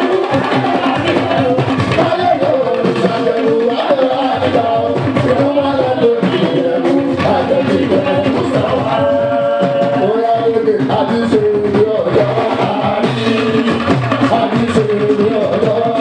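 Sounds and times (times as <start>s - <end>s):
hand drum percussion: 0.0s - 16.0s.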